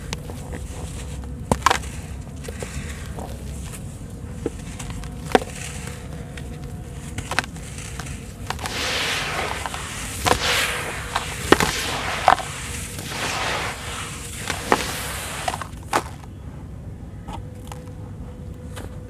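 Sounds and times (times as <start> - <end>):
dry mortar lumps cracking: 0.0 - 16.3
sand sifting through fingers: 0.0 - 16.3.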